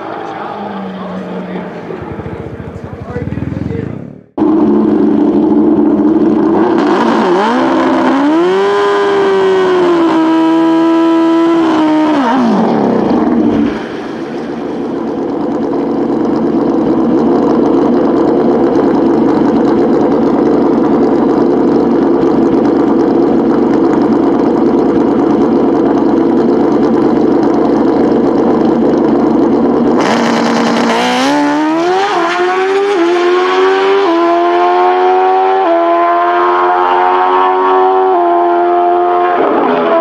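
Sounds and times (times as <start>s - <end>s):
motorcycle engine revving and accelerating: 0.0s - 40.0s.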